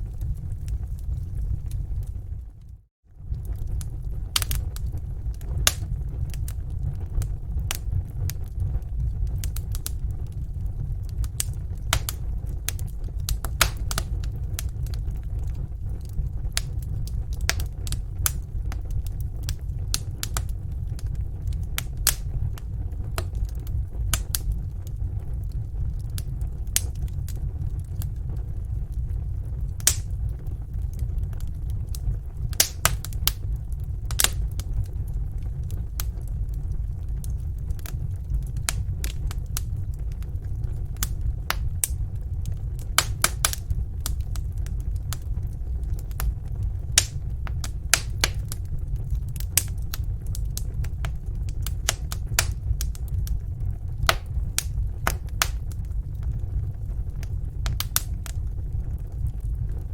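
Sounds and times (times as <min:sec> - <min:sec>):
fire crackling and popping: 0:00.0 - 0:59.9
low rumble: 0:00.0 - 0:59.9.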